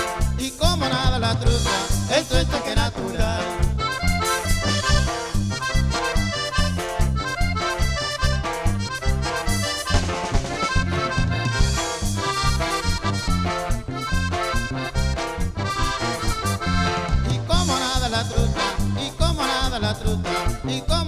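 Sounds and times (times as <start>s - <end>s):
accordion: 0.0s - 21.0s
band playing instrumental music: 0.0s - 21.0s
bouncing bass beat: 0.0s - 21.0s.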